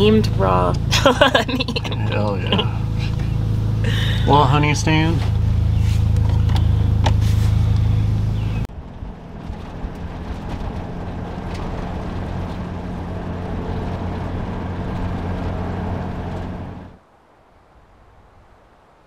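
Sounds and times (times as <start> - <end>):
engine hum: 0.0 - 17.1
road and wind noise: 0.0 - 19.0.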